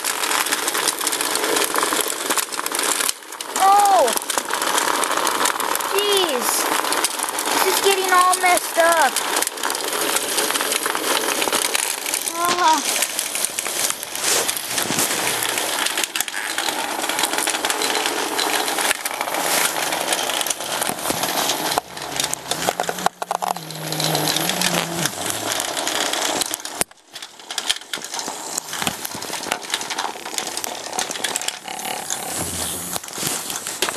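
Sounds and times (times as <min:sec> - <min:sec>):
toys rattling and clicking: 0:00.0 - 0:33.9.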